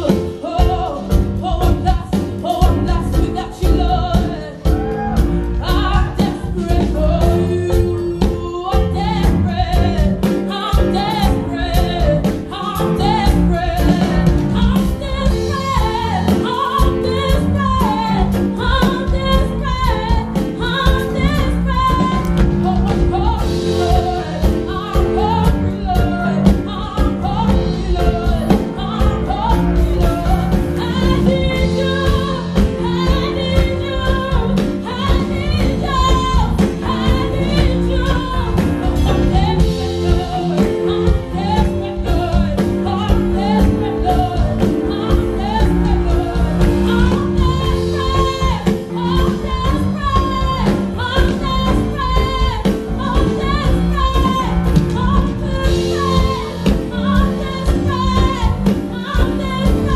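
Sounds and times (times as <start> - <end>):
woman singing into microphone: 0.0 - 59.9.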